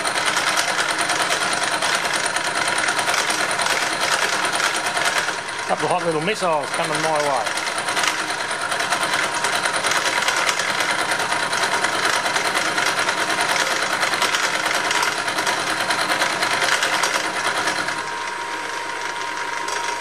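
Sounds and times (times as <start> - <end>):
milling cutter chattering on metal: 0.0 - 18.0.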